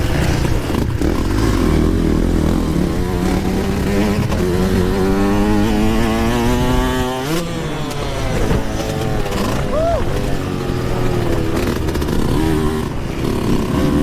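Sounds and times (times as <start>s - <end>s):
two-stroke dirt bike engine revving: 0.0s - 14.0s.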